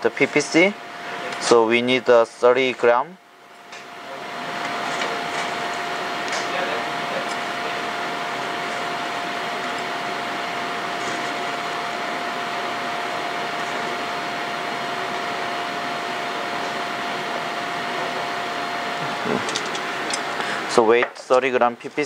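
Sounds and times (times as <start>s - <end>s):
faint constant hum: 0.0s - 22.0s
ventilation air rushing: 0.0s - 22.0s.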